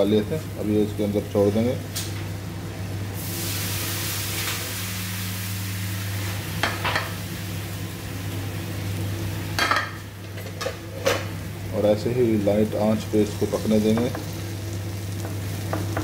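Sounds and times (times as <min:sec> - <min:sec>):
eggs sizzling in hot oil: 0:03.1 - 0:16.0.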